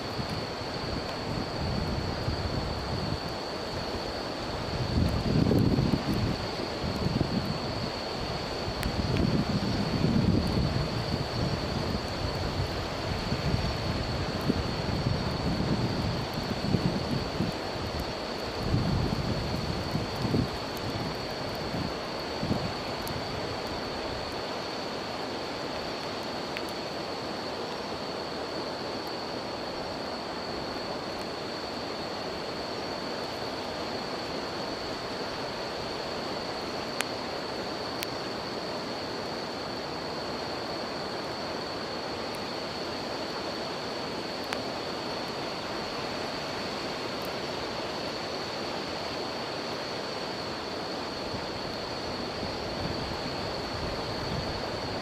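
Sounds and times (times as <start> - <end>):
campfire crackling: 0.0 - 55.0
insect trill: 0.0 - 55.0.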